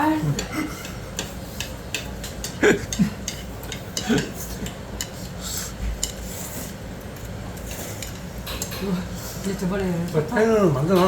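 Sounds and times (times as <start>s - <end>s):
utensils clicking against dishes: 0.0s - 11.0s.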